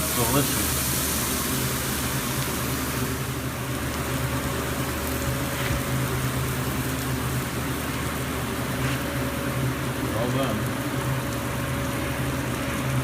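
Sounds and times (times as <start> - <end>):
burger patty sizzling: 0.0 - 13.0.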